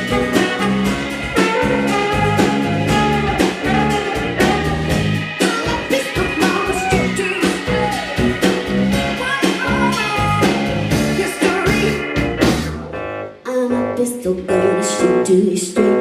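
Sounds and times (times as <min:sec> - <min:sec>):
live band music: 0:00.0 - 0:16.0
sliding melody line: 0:00.0 - 0:16.0.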